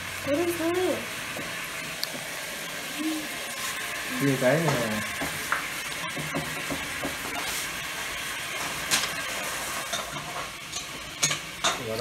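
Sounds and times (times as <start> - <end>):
frying pan sizzling: 0.0 - 12.0.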